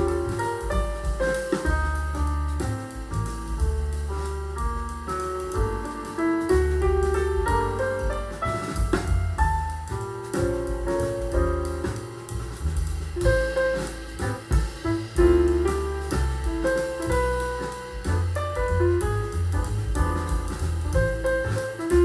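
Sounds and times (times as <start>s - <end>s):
jazz piano and bass on loudspeakers: 0.0s - 22.0s.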